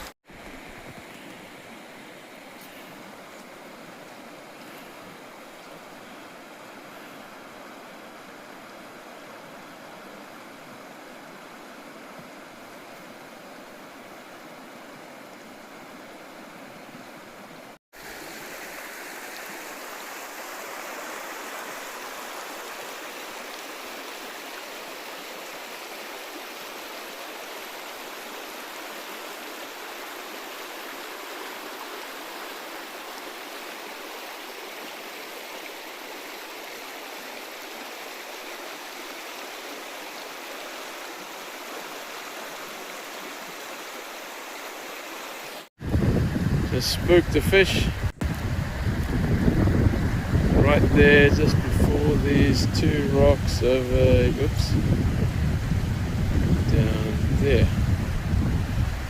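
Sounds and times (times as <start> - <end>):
river running over stones: 0.0 - 59.0.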